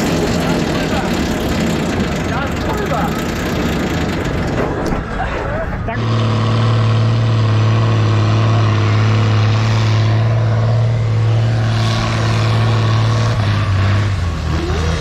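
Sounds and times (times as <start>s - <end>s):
tractor diesel engine at full revs: 0.0s - 15.0s.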